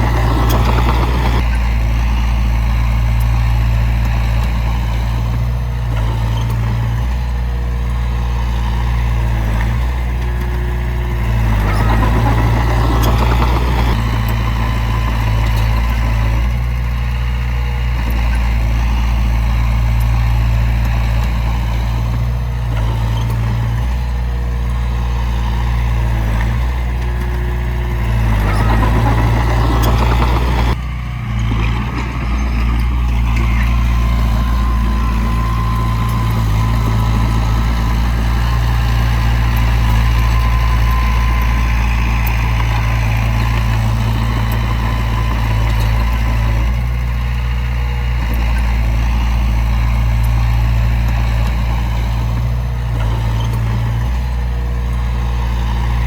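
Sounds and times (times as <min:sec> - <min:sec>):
diesel machinery engine rumble: 0:00.0 - 0:56.0.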